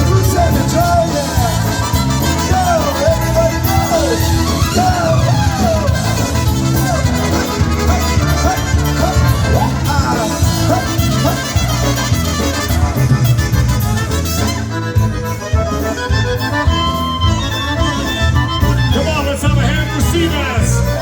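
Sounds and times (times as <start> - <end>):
polka band with accordion: 0.0 - 21.0.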